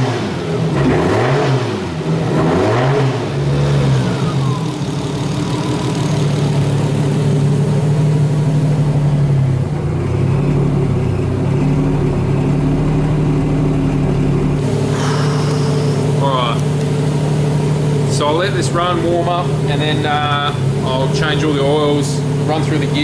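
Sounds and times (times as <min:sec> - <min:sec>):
car engine idling: 0:03.2 - 0:23.0.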